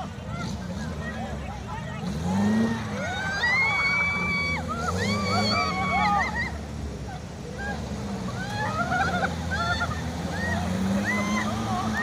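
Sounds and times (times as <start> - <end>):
off-road vehicle engine droning: 0.0 - 12.0.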